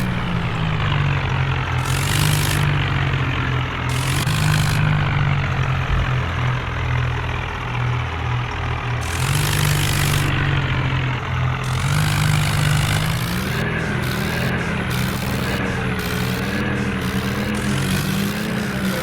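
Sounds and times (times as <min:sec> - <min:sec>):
tractor engines droning: 0:00.0 - 0:19.0.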